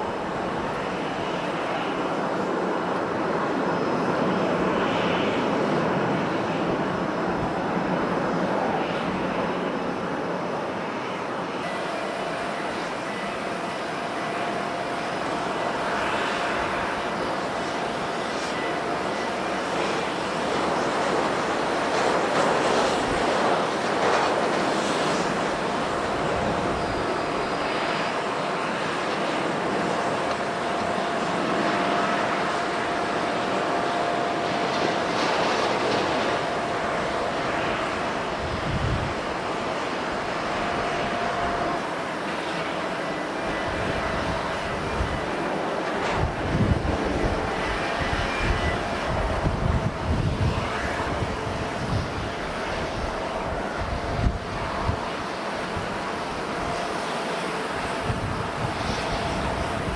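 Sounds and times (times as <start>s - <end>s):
faint steady whine: 0.0s - 59.9s
jet engines rushing: 0.0s - 59.9s
wind buffeting microphone: 0.0s - 59.9s.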